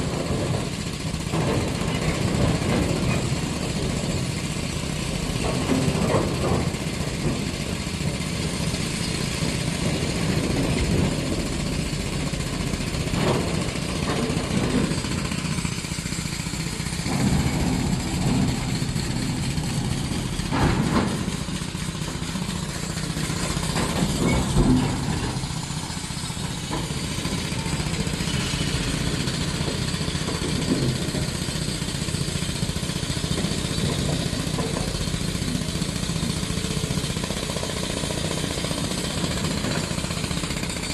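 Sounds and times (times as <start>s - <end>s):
heavy diesel engine running: 0.0s - 40.9s
metal clanks and knocks: 0.1s - 11.6s, 13.0s - 31.7s, 33.3s - 35.8s.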